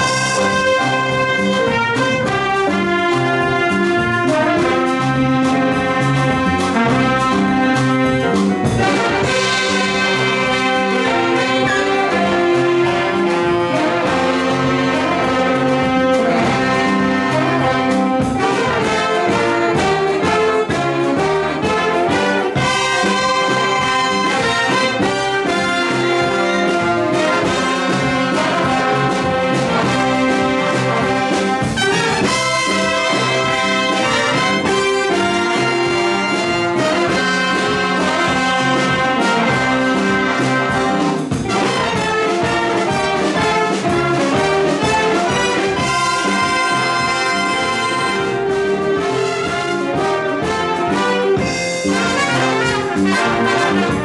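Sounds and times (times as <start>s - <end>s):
jazz big band playing: 0.0s - 54.0s.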